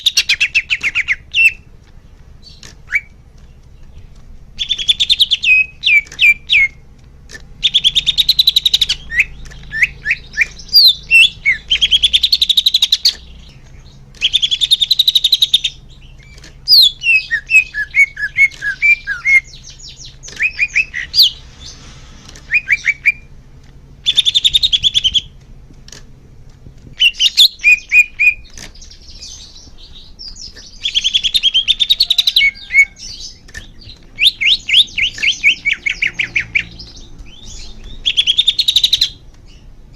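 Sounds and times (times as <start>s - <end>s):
bird chattering trills and whistles: 0.0s - 1.7s, 2.4s - 3.2s, 4.6s - 6.8s, 7.6s - 21.8s, 22.5s - 23.3s, 24.0s - 25.4s, 27.0s - 39.7s.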